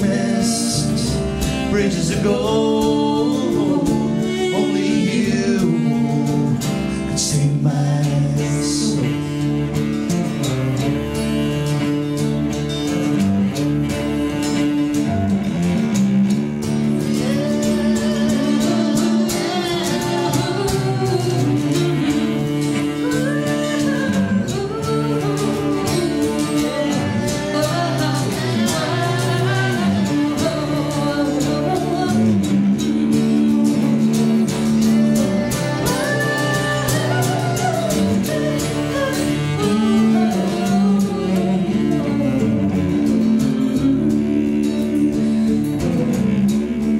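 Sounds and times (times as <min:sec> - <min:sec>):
acoustic guitar: 0:00.0 - 0:46.9
cello: 0:00.0 - 0:46.9.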